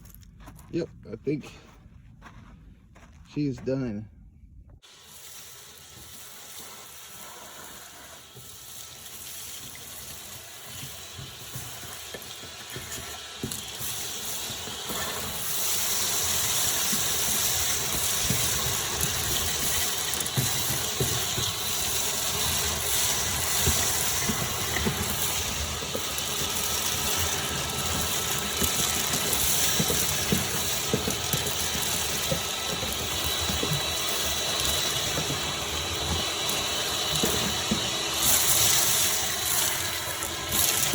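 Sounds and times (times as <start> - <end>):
debris rattling in vacuum: 4.9 - 40.9
vacuum cleaner motor whine: 6.9 - 40.9.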